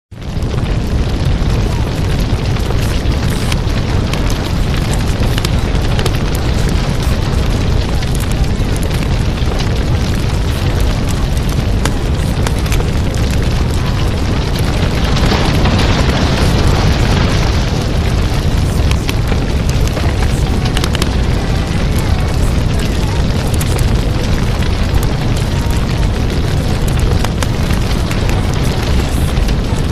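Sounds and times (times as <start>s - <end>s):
loud rumbling noise with heavy bass: 0.1s - 29.9s.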